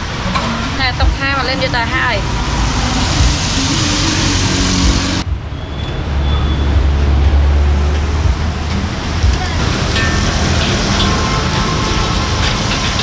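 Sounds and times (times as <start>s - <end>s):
hiss of passing vehicles: 0.0s - 13.0s
low engine rumble: 0.0s - 13.0s.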